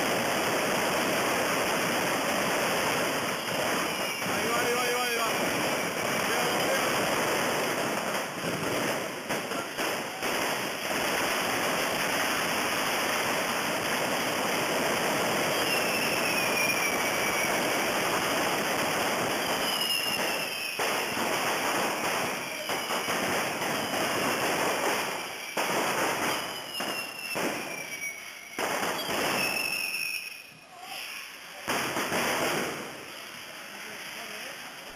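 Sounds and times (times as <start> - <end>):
firework whistles falling: 0.0 - 34.8
fireworks crackling: 0.0 - 34.9.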